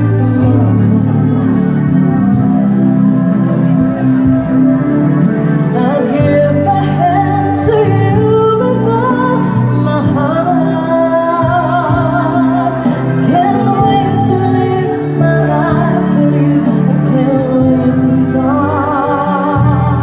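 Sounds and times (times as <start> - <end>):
live band with keyboard: 0.0 - 20.0
woman singing with vibrato: 0.0 - 20.0.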